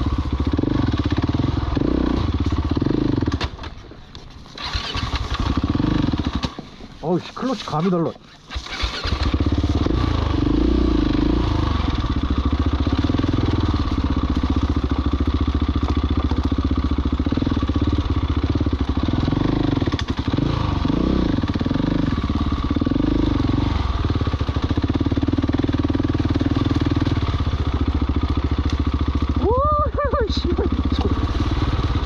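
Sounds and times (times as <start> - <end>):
motorcycle engine revving: 0.0 - 3.8, 4.5 - 6.8, 8.4 - 32.0.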